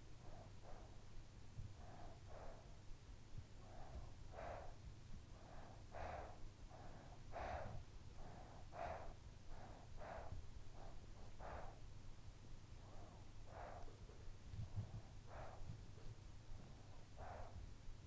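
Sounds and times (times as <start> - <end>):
child breathing softly in sleep: 0.2 - 1.0, 1.6 - 11.9, 12.7 - 17.7.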